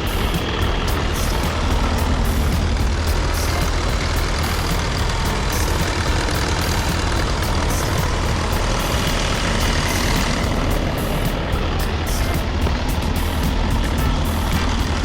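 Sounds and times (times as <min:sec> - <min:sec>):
background hiss: 0:00.0 - 0:15.0
vehicle engine rumble: 0:00.0 - 0:15.0.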